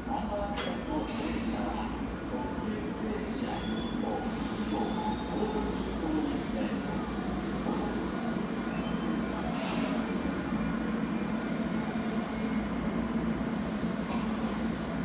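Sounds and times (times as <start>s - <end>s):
train humming and rumbling: 1.5s - 15.0s.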